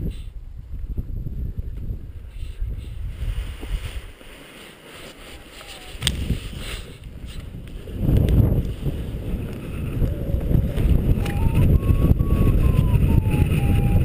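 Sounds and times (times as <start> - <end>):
wind buffeting microphone: 0.0 - 4.3, 5.4 - 14.0.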